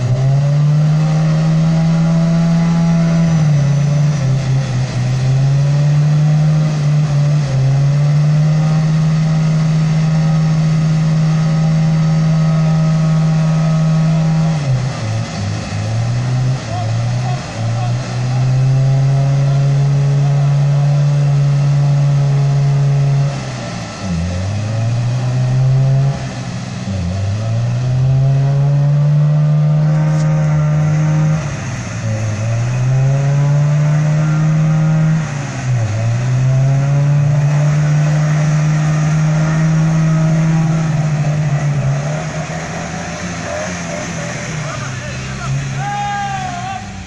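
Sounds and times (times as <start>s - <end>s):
wheels spinning in mud: 0.0s - 46.0s
off-road vehicle engine revving: 0.0s - 47.0s.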